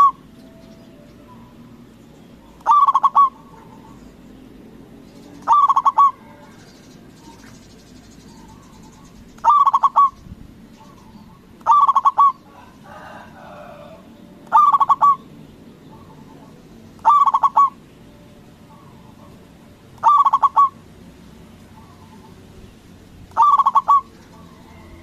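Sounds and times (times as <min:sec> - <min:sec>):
dove cooing: 0:00.0 - 0:00.3, 0:01.3 - 0:04.2, 0:05.2 - 0:07.6, 0:08.3 - 0:10.2, 0:10.8 - 0:22.5, 0:23.3 - 0:25.0.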